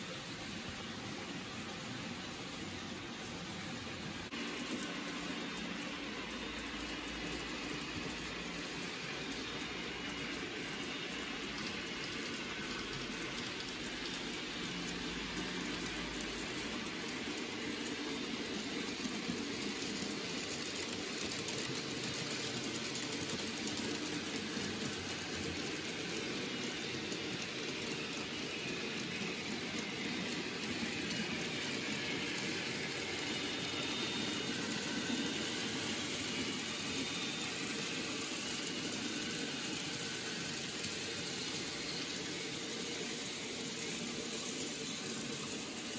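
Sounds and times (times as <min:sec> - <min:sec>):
model train wheels rattling on rails: 0:00.0 - 0:45.9.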